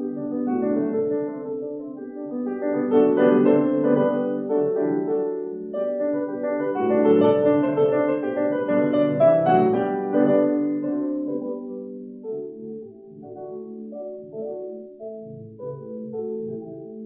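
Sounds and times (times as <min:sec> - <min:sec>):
classical piano music: 0:00.0 - 0:17.0.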